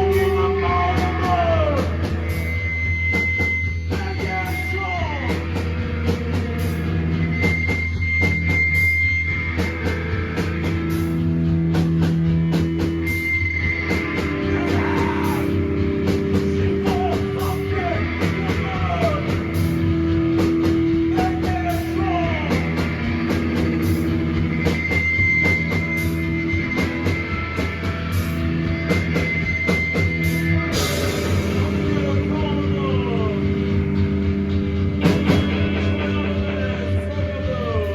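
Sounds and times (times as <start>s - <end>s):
live rock band playing: 0.0s - 37.9s.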